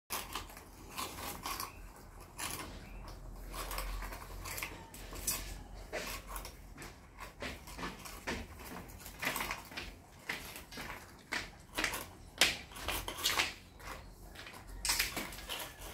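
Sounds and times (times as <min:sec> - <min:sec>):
rabbits crunching biscuits: 0:00.1 - 0:15.9.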